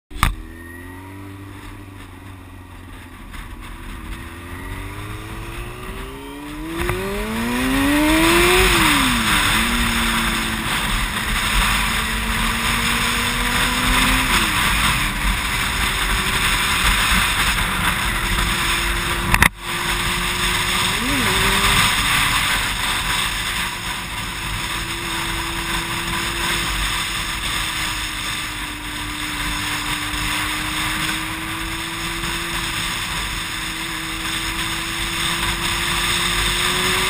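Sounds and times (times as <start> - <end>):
motorcycle engine accelerating: 0.1 - 37.0
wind rushing over microphone: 0.9 - 37.0.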